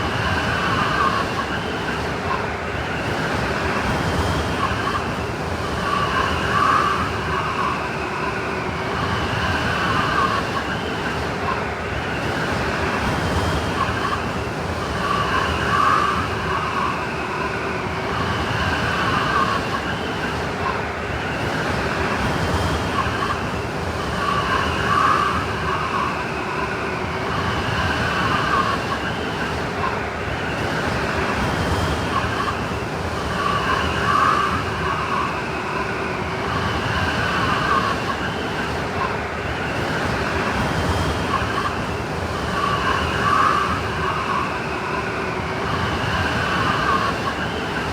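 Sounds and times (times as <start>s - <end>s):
howling blizzard wind: 0.0s - 47.9s.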